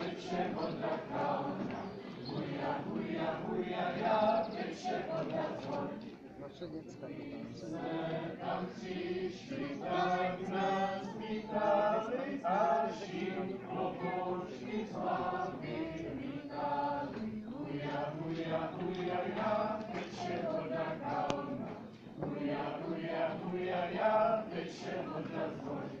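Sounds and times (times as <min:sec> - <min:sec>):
group singing a folk song: 0:00.0 - 0:06.2, 0:07.2 - 0:26.0.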